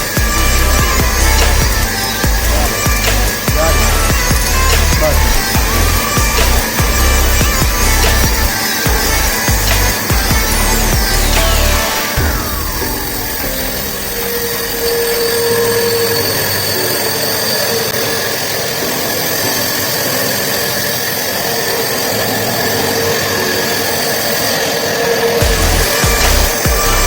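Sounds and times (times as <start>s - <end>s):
band sawmill drone with high whine: 0.0s - 27.0s.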